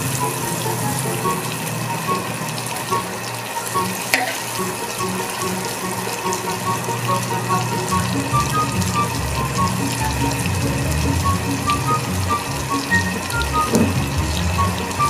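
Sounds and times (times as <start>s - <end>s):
background music: 0.0s - 15.0s
butter sizzling in a wok: 0.0s - 15.0s.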